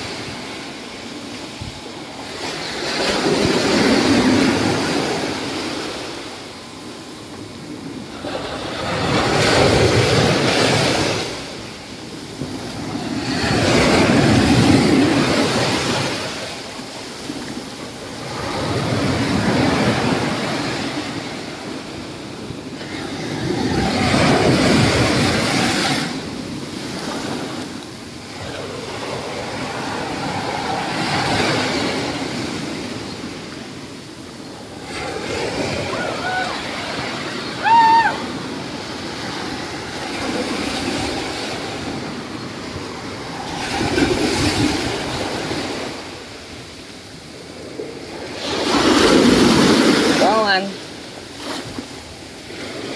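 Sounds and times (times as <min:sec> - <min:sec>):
small waves breaking on beach: 0:00.0 - 0:52.9.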